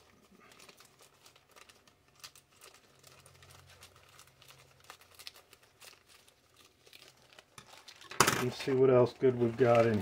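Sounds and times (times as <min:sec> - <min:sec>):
plastic crinkling: 0:00.0 - 0:10.0.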